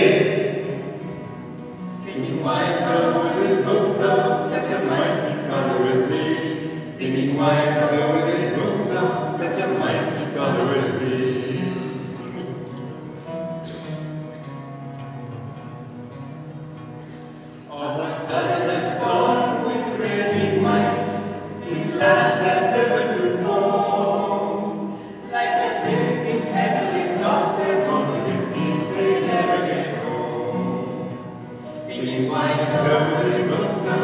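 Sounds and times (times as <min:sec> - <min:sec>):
group singing: 0:00.0 - 0:01.1, 0:02.0 - 0:12.5, 0:17.7 - 0:34.0
acoustic guitar strumming: 0:00.0 - 0:34.0.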